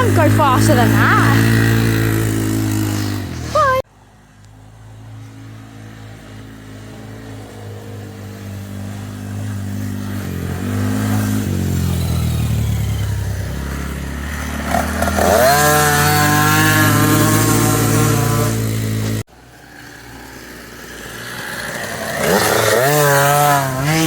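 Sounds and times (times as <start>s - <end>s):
dirt bike engine revving: 0.0s - 3.8s, 5.8s - 24.0s.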